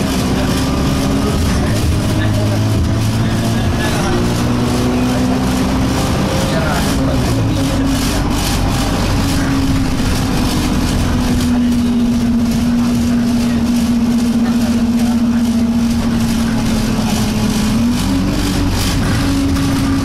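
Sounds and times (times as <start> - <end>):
bus engine and road noise: 0.0 - 20.0
bus vibration hum: 0.0 - 20.0.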